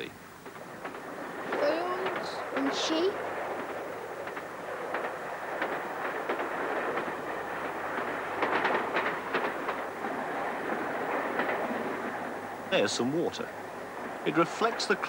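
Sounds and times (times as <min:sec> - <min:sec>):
train wheels rumbling on track: 0:00.0 - 0:15.0
wheels clicking over rail joints: 0:00.0 - 0:15.0.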